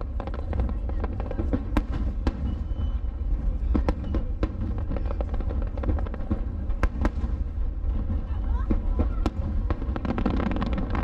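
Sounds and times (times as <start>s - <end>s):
firework cracks: 0.0s - 11.0s
fireworks booming: 0.0s - 11.0s.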